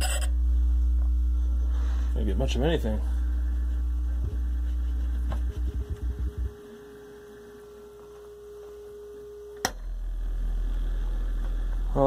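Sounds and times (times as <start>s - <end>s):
higher steady tone: 0.0s - 12.0s
very low sine tone: 0.0s - 12.0s.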